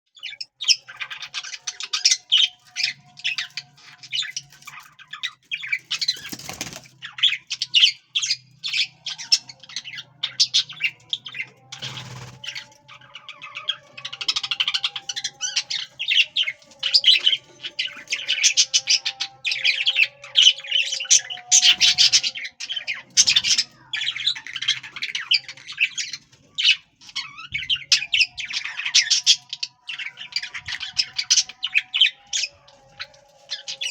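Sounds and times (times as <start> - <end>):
budgerigars chattering and warbling: 0.2 - 33.9.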